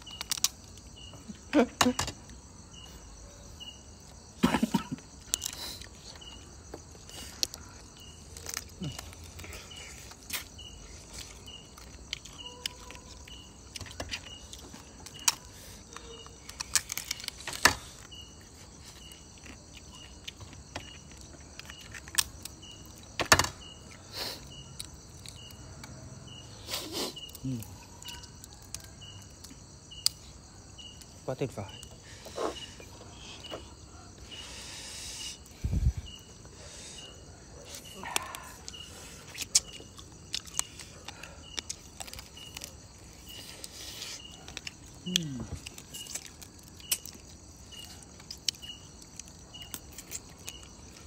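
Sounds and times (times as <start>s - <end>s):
crickets chirping: 0.0s - 51.0s
high insect drone: 0.0s - 51.0s.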